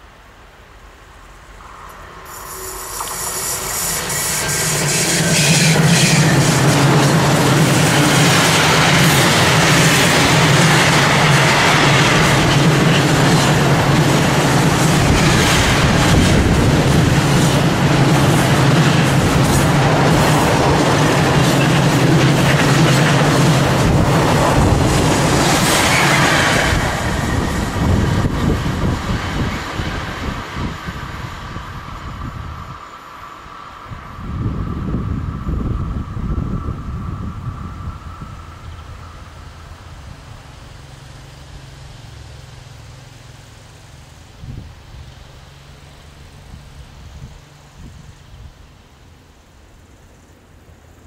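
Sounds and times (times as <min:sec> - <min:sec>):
freight train passing at speed: 0:00.0 - 0:51.0.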